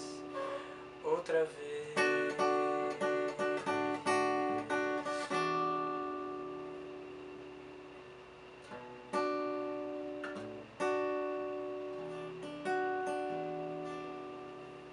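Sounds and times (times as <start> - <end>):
acoustic guitar chords: 0.0 - 14.9.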